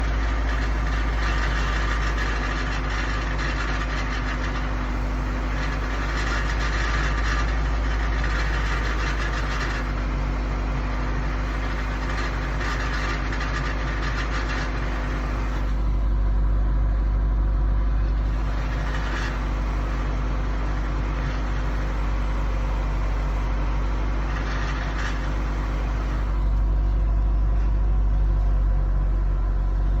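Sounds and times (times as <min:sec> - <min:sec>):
low engine rumble: 0:00.0 - 0:30.0
vehicle rattle: 0:00.0 - 0:30.0.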